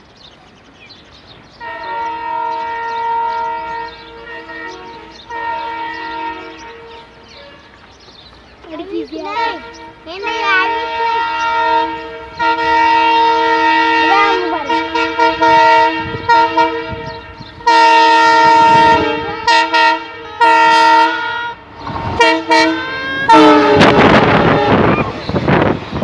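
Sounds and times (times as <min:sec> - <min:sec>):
train running noise: 0:00.0 - 0:26.0
locomotive horn blasts: 0:01.6 - 0:07.8, 0:09.4 - 0:26.0.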